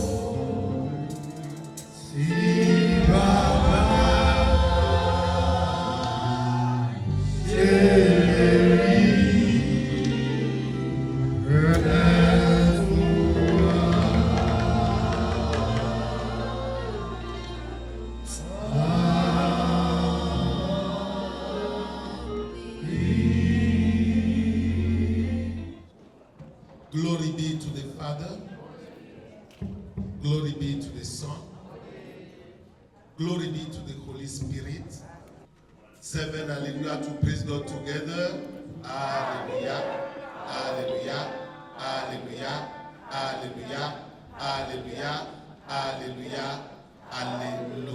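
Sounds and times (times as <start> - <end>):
gospel choir with instruments: 0.0 - 35.0, 35.9 - 47.9.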